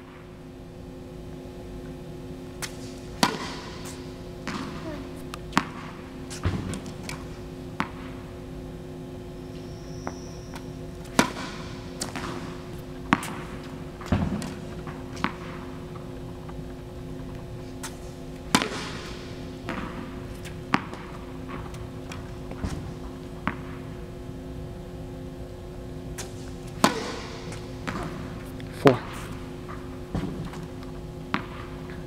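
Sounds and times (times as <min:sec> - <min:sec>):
steady low hum: 0:00.0 - 0:32.0
tennis balls bouncing on court: 0:02.6 - 0:08.4, 0:10.0 - 0:24.1, 0:26.2 - 0:32.0.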